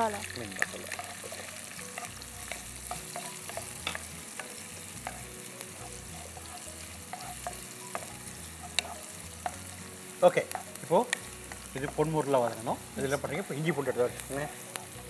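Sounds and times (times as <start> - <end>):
onions sizzling in hot oil: 0.0 - 15.0
spatula scraping a pan: 0.8 - 15.0.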